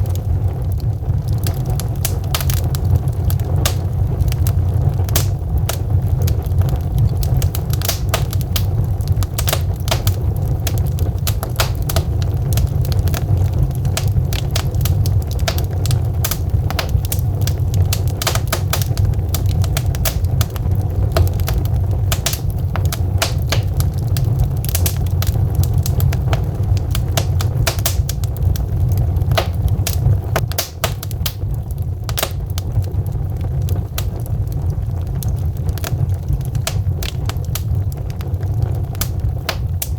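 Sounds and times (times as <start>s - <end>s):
logs crackling in fireplace: 0.0s - 39.9s
low fire rumble: 0.0s - 39.9s.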